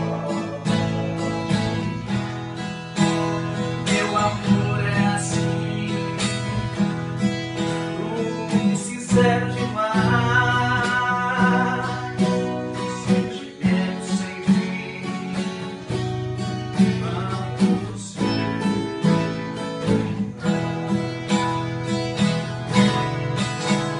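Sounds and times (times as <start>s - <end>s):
man singing: 0.0s - 2.3s, 2.9s - 20.7s
acoustic guitars strumming: 0.0s - 23.9s.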